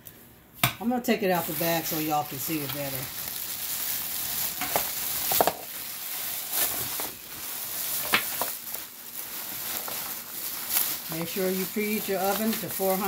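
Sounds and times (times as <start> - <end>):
plastic bag crinkling: 1.1 - 13.0.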